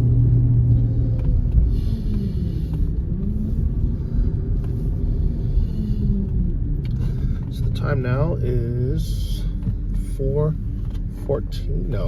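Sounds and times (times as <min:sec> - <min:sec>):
car engine humming: 0:00.0 - 0:12.0
road rumble: 0:00.0 - 0:12.0.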